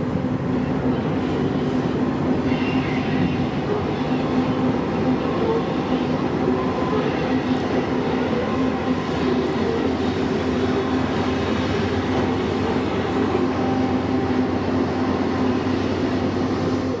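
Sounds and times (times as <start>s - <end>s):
diesel locomotive hum: 0.0s - 17.0s
rumble of rolling train wheels: 0.0s - 17.0s.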